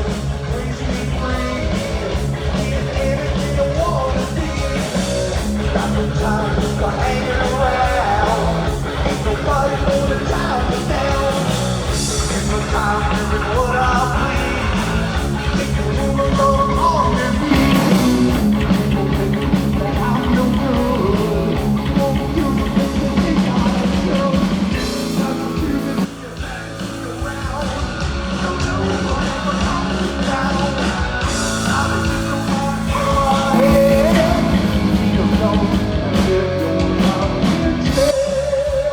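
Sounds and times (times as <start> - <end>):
bass guitar: 0.0 - 38.9
distorted electric guitar: 0.0 - 38.9
drums: 0.0 - 38.9.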